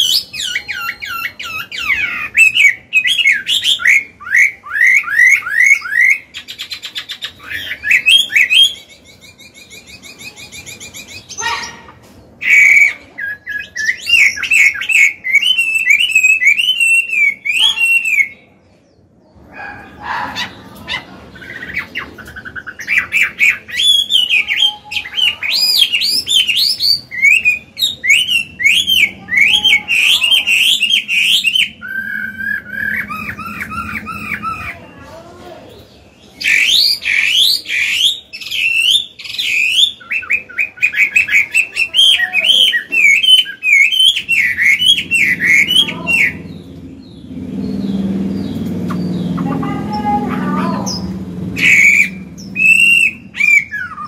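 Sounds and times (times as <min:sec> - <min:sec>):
bird singing whistles and trills: 0:00.0 - 0:11.8, 0:12.4 - 0:18.5, 0:20.9 - 0:34.8, 0:36.2 - 0:49.4, 0:50.9 - 0:54.0.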